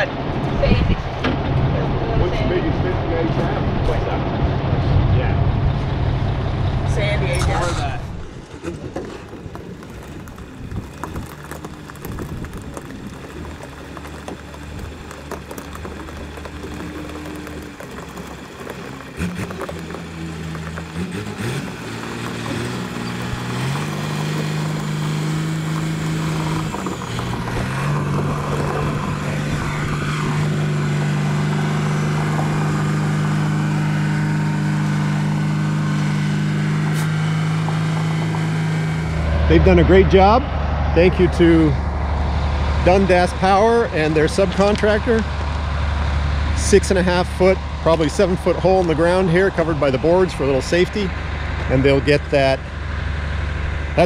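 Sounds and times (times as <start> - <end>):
heavy diesel engine revving: 10.0 - 54.0.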